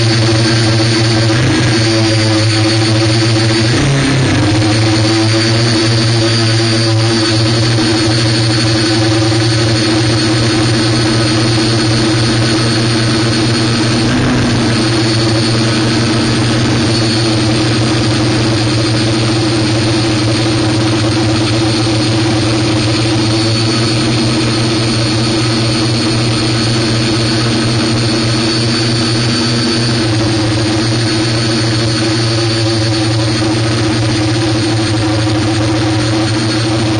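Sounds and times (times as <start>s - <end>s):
drone propellers humming: 0.0s - 36.9s.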